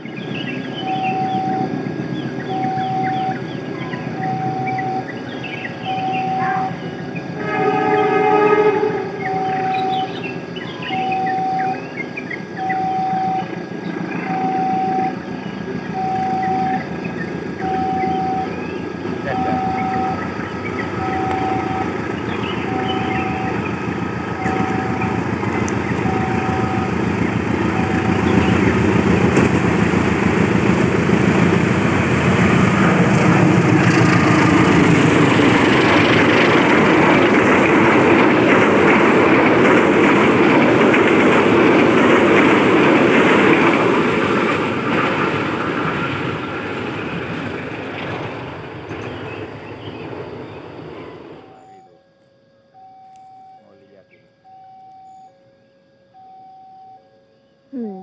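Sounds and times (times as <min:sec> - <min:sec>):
train wheels on rails: 0:00.0 - 0:51.8
level crossing alarm beeping: 0:00.0 - 0:52.0, 0:52.7 - 0:57.2
diesel locomotive engine: 0:00.0 - 0:55.3, 0:57.7 - 0:58.0.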